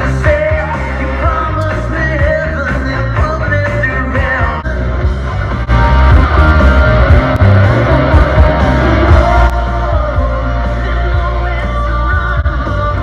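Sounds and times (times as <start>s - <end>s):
loud rock music with singing: 0.0s - 13.0s.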